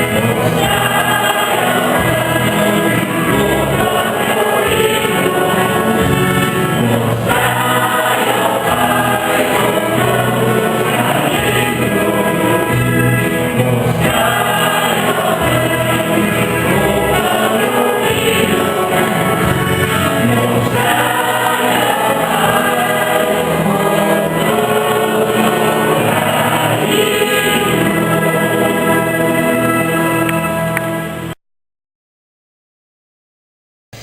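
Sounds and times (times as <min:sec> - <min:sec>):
choir singing a hymn: 0:00.0 - 0:31.4
instrumental accompaniment: 0:00.0 - 0:31.4.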